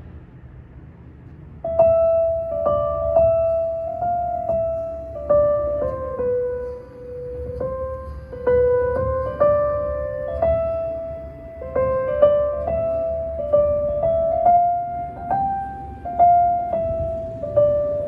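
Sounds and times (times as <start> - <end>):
slow piano melody: 1.5 - 18.0.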